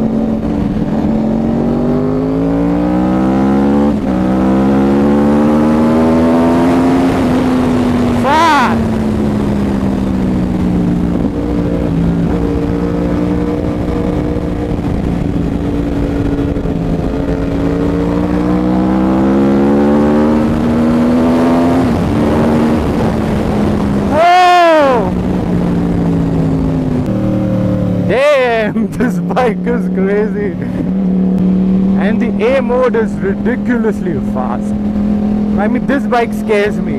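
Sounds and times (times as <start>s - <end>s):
motorcycle engine running loud: 0.0s - 36.9s.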